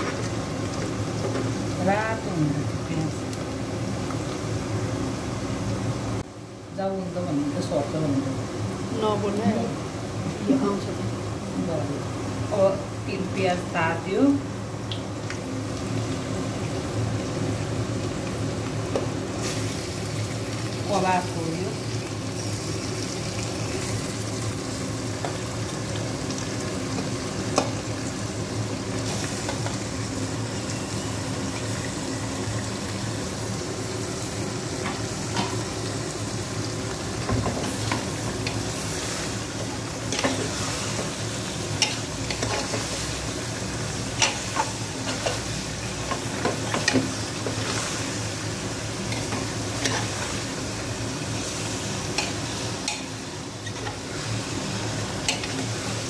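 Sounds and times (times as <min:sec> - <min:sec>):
meat sizzling in hot oil: 0:00.0 - 0:06.4, 0:07.2 - 0:56.0.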